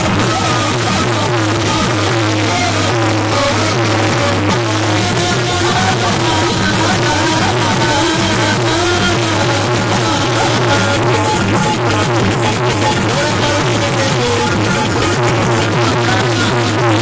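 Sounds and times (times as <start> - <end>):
devotional music over loudspeaker: 0.0 - 17.0.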